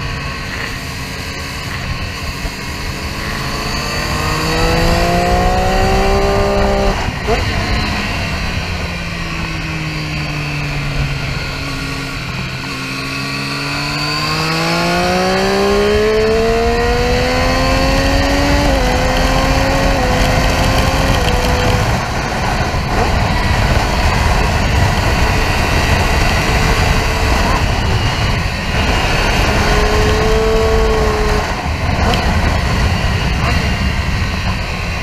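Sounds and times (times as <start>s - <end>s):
motorcycle engine accelerating: 0.0s - 35.0s
wind rushing on microphone: 0.0s - 35.0s.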